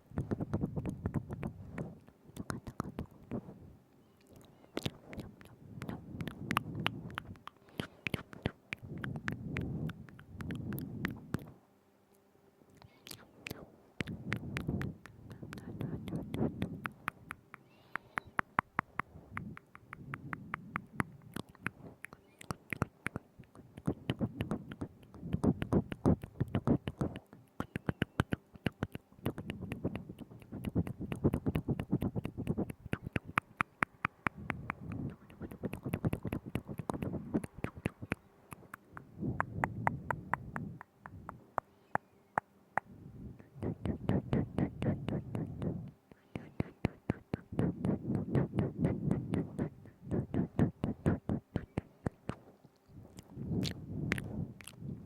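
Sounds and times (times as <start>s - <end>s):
wet mouth clicks and smacks: 0.2s - 3.4s, 4.2s - 11.5s, 12.7s - 54.9s.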